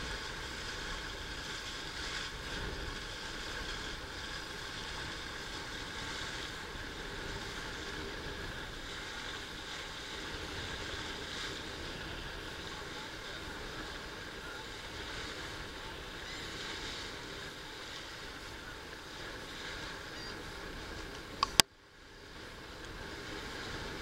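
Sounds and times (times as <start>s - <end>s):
choppy water: 0.0s - 24.0s
wind: 0.0s - 24.0s.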